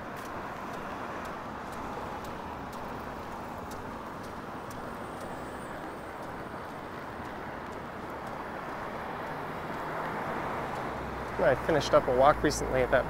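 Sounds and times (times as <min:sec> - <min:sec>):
passing cars: 0:00.0 - 0:13.0
faint ticks: 0:00.1 - 0:12.4.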